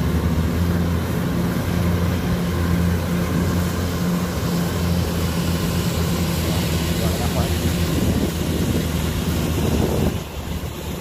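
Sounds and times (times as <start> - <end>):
diesel engine droning under load: 0.0 - 11.0.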